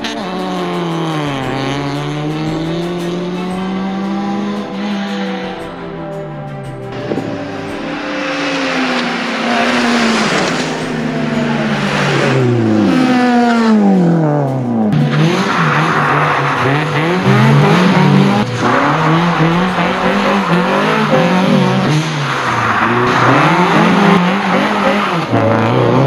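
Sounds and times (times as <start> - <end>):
car engine revving through gears: 0.0 - 6.2, 6.9 - 26.0.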